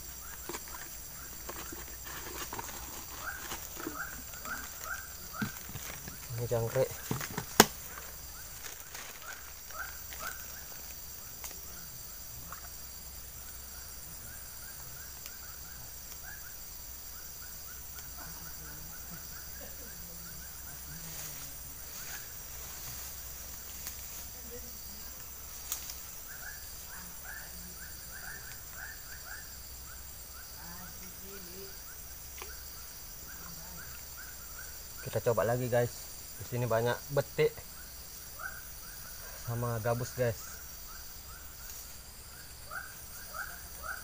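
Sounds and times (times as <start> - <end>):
high-pitched insect chorus: 0.0 - 44.0.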